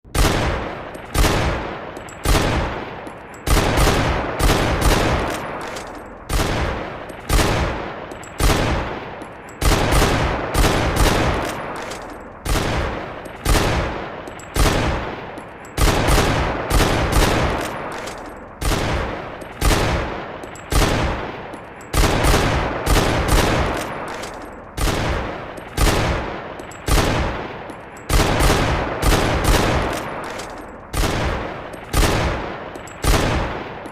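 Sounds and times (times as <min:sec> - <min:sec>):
pistol shots echoing: 0:00.1 - 0:33.9.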